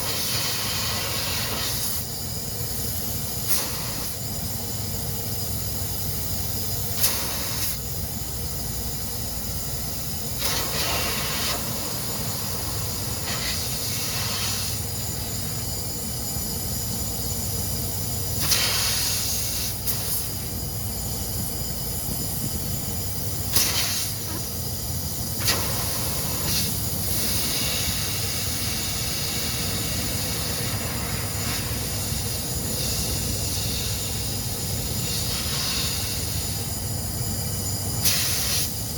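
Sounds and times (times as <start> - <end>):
compressed gas hissing: 0.0 - 4.8, 5.7 - 8.0, 9.5 - 16.8, 17.4 - 38.9.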